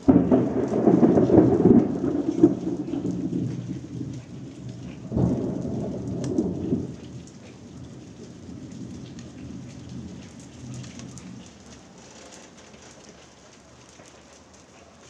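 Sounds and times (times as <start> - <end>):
thunder rumbling: 0.0 - 13.0
steady rain: 0.0 - 15.0.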